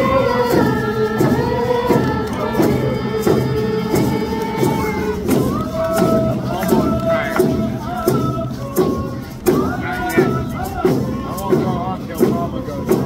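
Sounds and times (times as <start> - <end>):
group singing in unison: 0.0 - 13.0
hand drums beating: 0.0 - 13.0.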